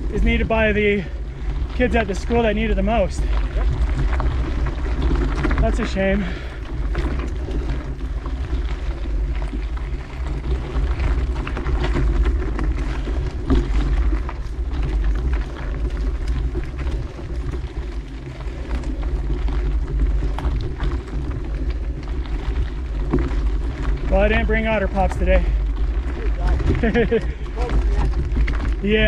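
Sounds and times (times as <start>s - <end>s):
bicycle tyre noise on trail: 0.0s - 29.0s
small clicks and rattles: 0.0s - 29.0s.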